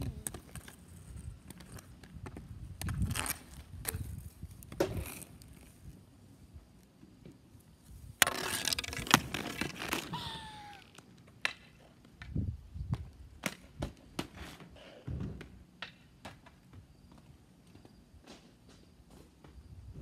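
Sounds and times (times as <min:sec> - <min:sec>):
inline skate wheels rolling on concrete: 0:00.0 - 0:20.0.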